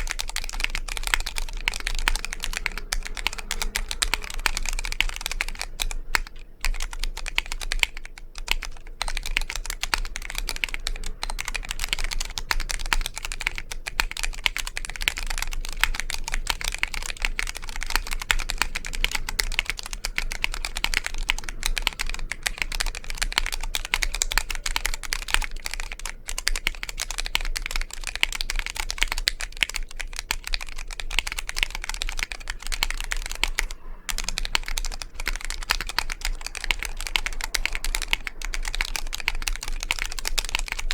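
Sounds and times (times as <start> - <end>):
mechanical keyboard typing: 0.0 - 40.9
steady low hum: 0.0 - 40.9.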